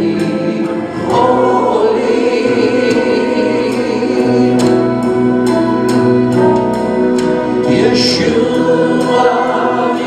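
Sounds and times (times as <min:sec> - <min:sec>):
band playing held chords: 0:00.0 - 0:10.0.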